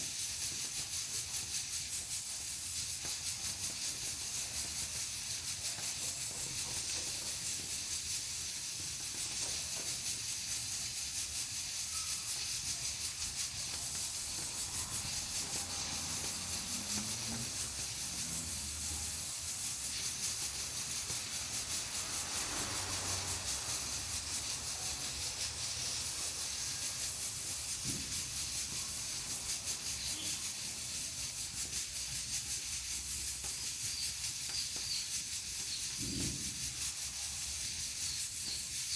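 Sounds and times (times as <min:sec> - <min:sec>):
pressure cooker hissing: 0:00.0 - 0:38.9.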